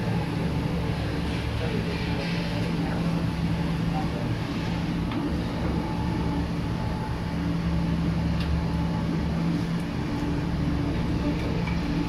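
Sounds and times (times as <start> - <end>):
steady machinery hum: 0.0 - 12.0.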